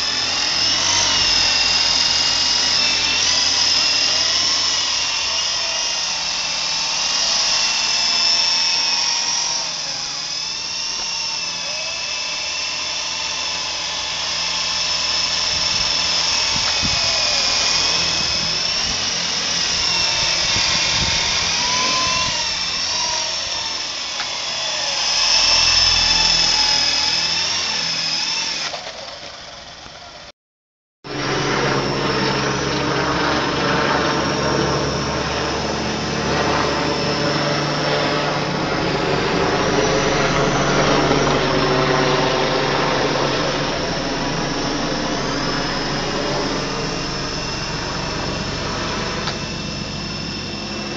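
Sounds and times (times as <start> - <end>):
toy helicopter rotors whining: 0.0 - 30.3, 31.1 - 50.9.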